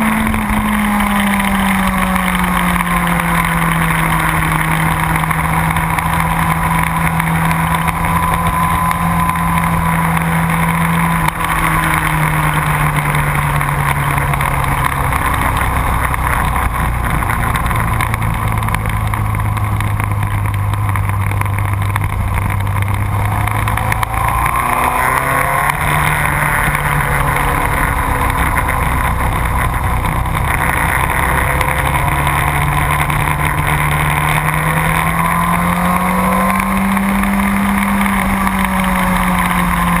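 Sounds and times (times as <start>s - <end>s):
motorcycle engine revving: 0.0s - 40.0s
steady rush of noise: 0.0s - 40.0s.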